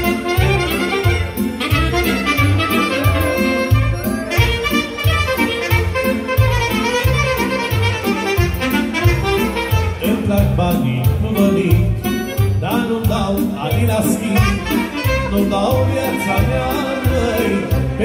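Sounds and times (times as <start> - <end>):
clarinet: 0.0 - 10.1, 11.4 - 12.7, 14.4 - 18.0
saxophone: 0.0 - 10.2, 11.3 - 12.9, 14.4 - 18.0
keyboard accompaniment: 0.0 - 18.0
steady beat: 0.0 - 18.0.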